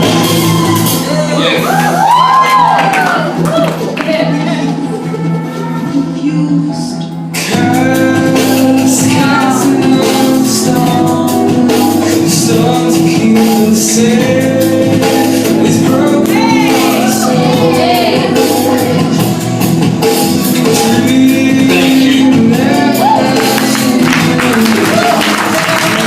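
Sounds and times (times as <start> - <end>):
song with singer over chords: 4.8 - 26.0.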